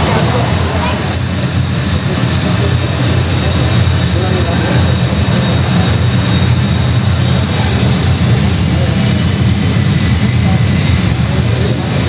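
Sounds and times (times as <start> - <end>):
jet engine over loudspeakers: 0.0 - 12.0.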